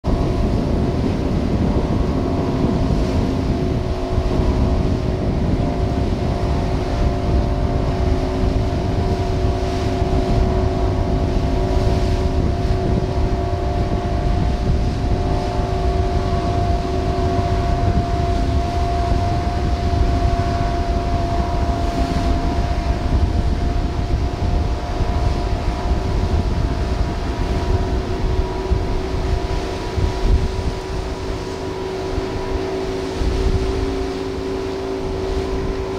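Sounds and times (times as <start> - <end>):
motorboat engine humming: 0.0 - 35.9
wind rumble: 0.0 - 35.9.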